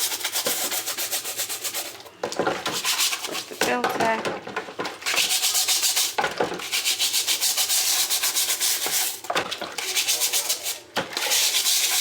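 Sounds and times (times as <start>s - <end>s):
brush scrubbing a filter: 0.0s - 2.0s, 2.6s - 3.8s, 4.9s - 12.0s.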